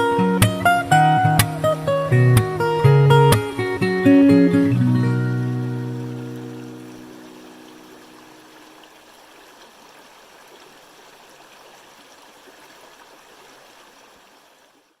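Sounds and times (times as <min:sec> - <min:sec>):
stream of running water: 0:00.0 - 0:15.0.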